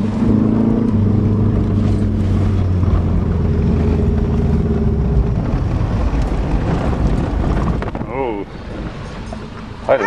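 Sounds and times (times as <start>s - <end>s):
car engine droning: 0.0s - 10.0s.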